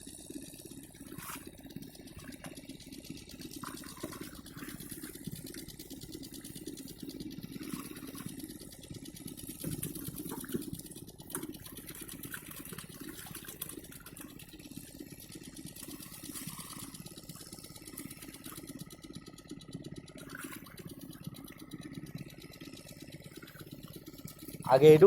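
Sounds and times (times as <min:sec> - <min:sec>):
water pump engine chattering: 0:00.0 - 0:25.0.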